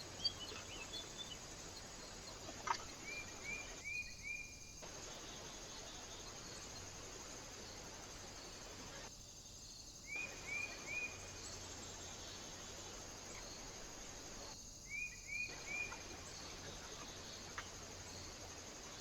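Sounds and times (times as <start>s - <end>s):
insect trill: 0.0s - 19.0s.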